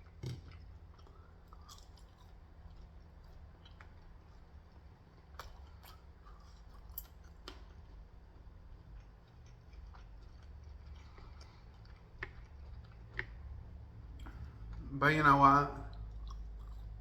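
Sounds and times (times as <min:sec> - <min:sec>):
chewing and eating: 0:00.0 - 0:15.0, 0:15.8 - 0:17.0
low steady hum: 0:00.0 - 0:17.0.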